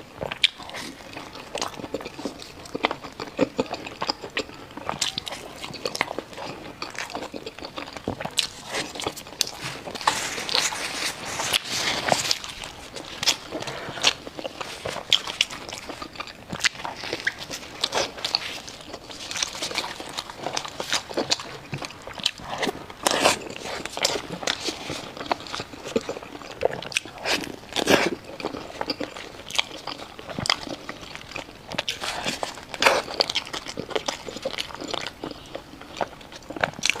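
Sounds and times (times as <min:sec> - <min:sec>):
chewing crunchy food: 0:00.0 - 0:37.0.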